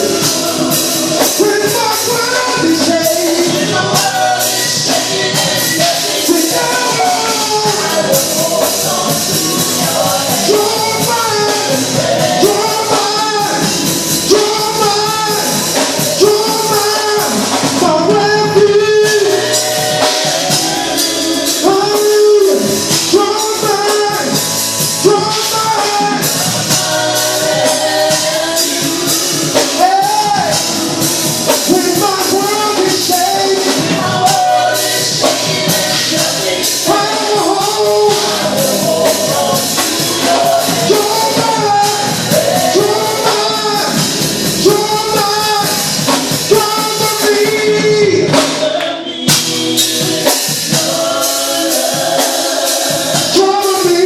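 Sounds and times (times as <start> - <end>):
gospel singers with band: 0.0 - 54.0
steady percussion: 0.0 - 54.0.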